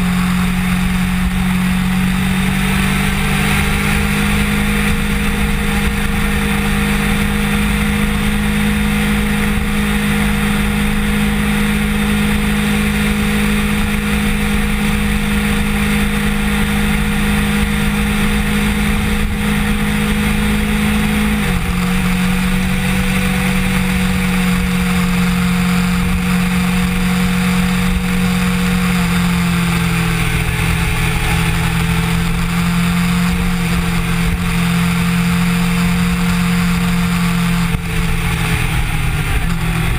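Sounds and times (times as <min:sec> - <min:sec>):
motorcycle engine cruising: 0:00.0 - 0:39.9
steady rushing noise: 0:00.0 - 0:39.9.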